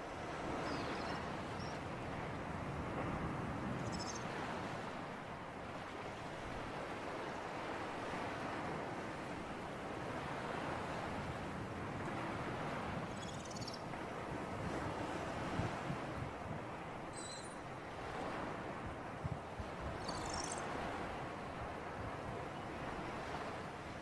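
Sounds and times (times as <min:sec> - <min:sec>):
waves washing: 0:00.0 - 0:24.0
wind: 0:00.0 - 0:24.0.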